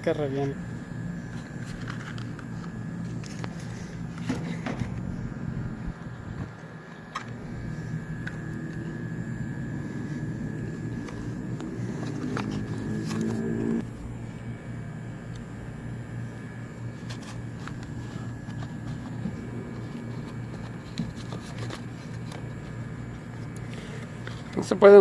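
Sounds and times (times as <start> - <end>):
air conditioner humming: 0.0 - 25.0
multi-pitched hum: 0.0 - 25.0.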